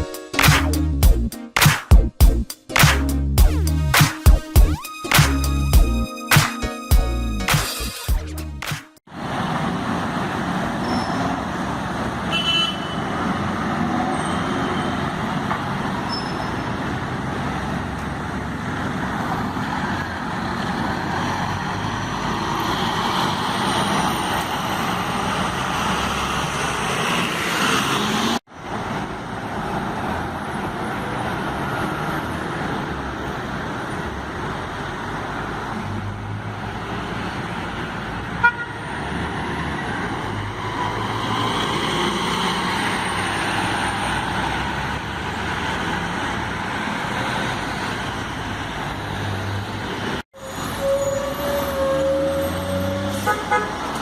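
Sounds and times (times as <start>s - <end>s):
road and tyre noise: 0.0s - 54.0s.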